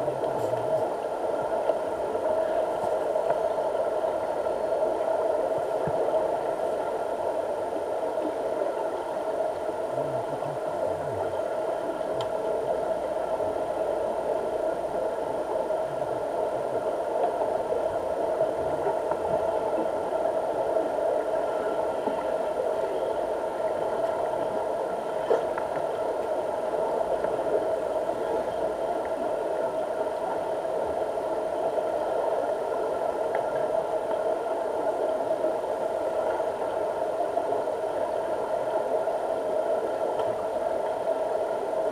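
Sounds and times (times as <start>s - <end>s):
underwater mechanical hum: 0.0s - 41.9s.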